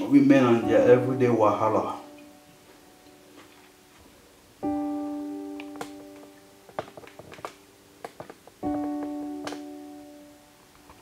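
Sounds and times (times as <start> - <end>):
soft piano chord ringing: 0.0 - 8.0, 8.6 - 11.0.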